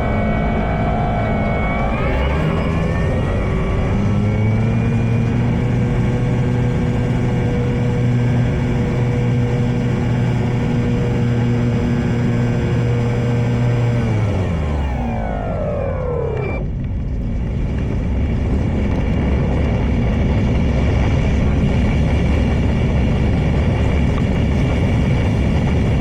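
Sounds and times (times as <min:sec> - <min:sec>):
electric motor and propeller whining: 0:00.0 - 0:26.0
wind noise on microphone: 0:00.0 - 0:26.0.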